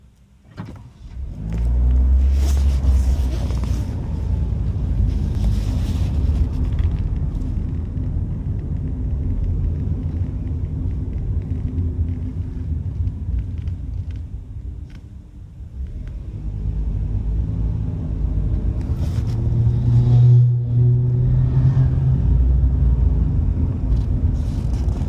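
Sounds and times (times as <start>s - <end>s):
car road rumble: 0.0s - 25.0s.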